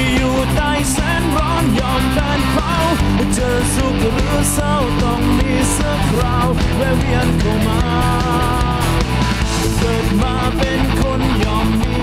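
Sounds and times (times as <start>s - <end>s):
electric guitar melody: 0.0s - 12.0s
rock band playing: 0.0s - 12.0s.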